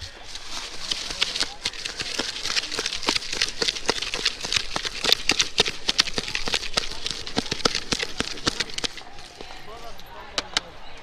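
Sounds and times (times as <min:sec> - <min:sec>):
puffed rice rustling: 0:00.0 - 0:10.2.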